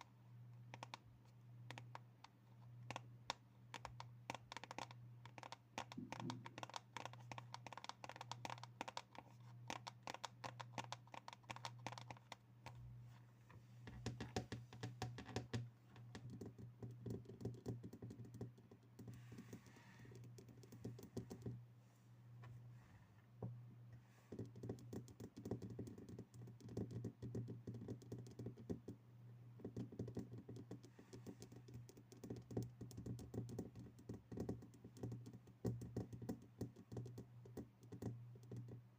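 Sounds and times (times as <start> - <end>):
low steady hum: 0.0 - 38.9
rapid tapping on objects: 1.6 - 12.8, 13.9 - 21.6, 24.3 - 29.0, 29.6 - 38.8.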